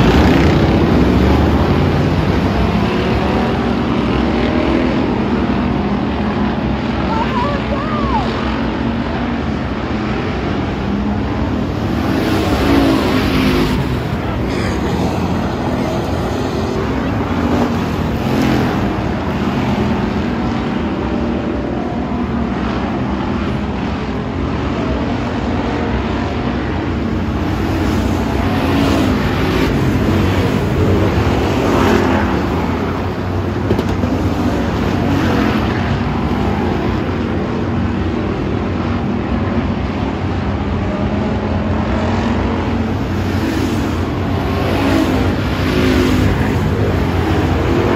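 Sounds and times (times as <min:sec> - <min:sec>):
race car engines idling and revving: 0:00.0 - 0:47.9.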